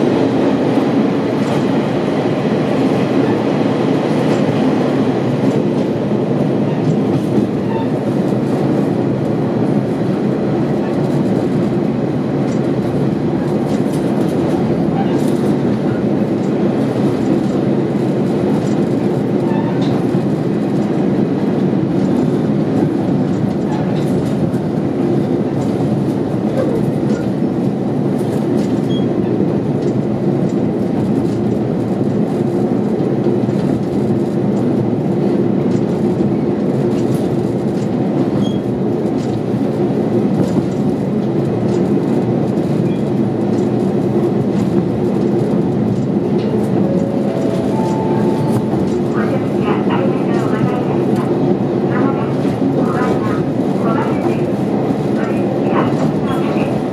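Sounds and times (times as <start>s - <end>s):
railcar engine drone: 0.0s - 56.9s.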